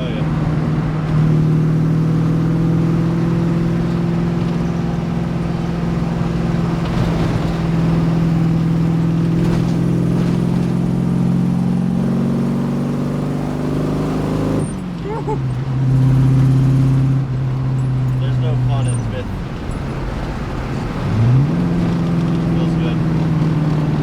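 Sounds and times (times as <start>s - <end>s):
car engine cruising drone: 0.0s - 24.0s.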